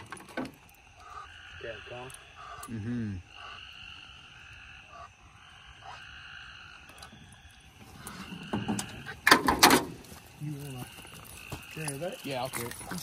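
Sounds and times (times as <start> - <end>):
chorus of night creatures: 0.0 - 13.0.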